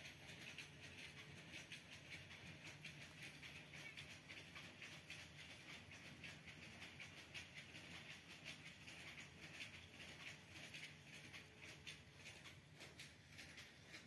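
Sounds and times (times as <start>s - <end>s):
light ticking and rustling: 0.0s - 14.0s.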